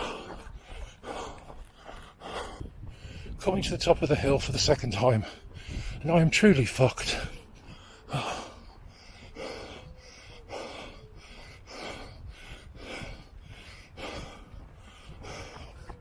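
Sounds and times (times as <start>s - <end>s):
person breathing hard: 0.0s - 3.4s, 5.2s - 6.0s, 7.1s - 16.0s.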